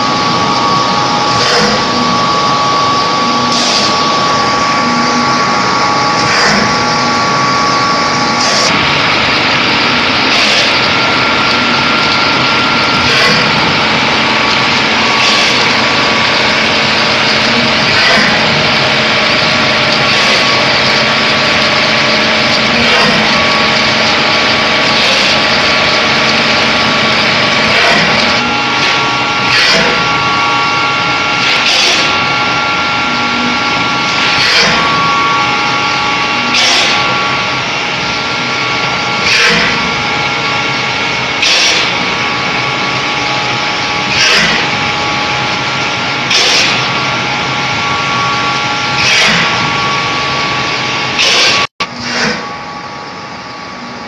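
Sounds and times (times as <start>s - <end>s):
machine drone with whining tones: 0.0s - 54.0s.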